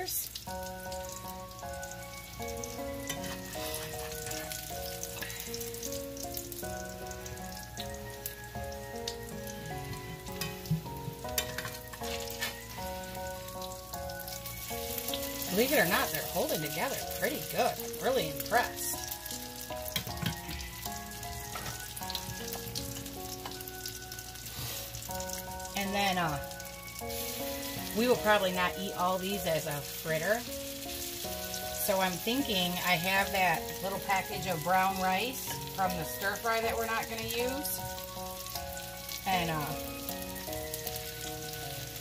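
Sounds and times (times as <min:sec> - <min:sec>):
background music: 0:00.0 - 0:42.0
fritters sizzling in oil: 0:00.0 - 0:42.0.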